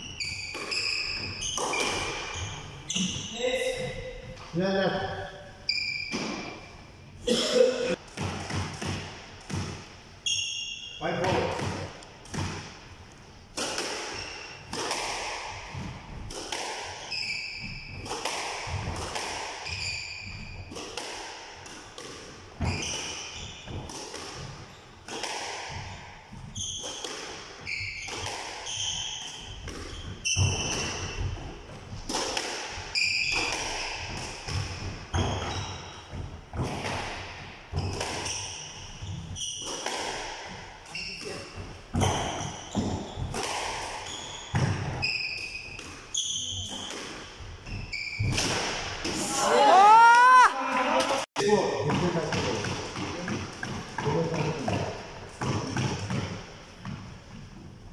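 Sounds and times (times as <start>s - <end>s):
shoes squeaking on court floor: 0.0s - 7.2s, 8.7s - 12.7s, 13.8s - 14.9s, 16.9s - 21.0s, 22.0s - 32.1s, 32.8s - 36.8s, 37.7s - 48.5s, 51.8s - 57.8s.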